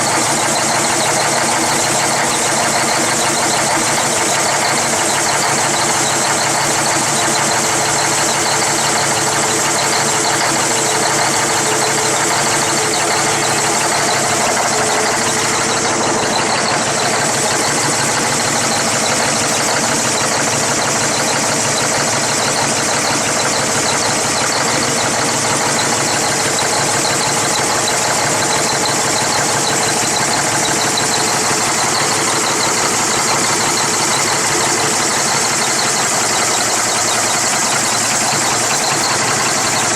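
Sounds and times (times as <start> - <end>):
diesel engine idling rough: 0.0 - 39.9.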